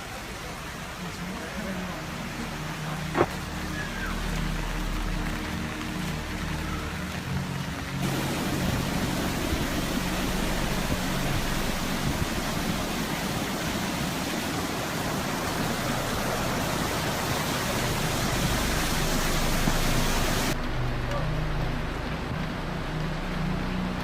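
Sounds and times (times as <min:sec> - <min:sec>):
steady rushing noise: 0:02.4 - 0:24.0.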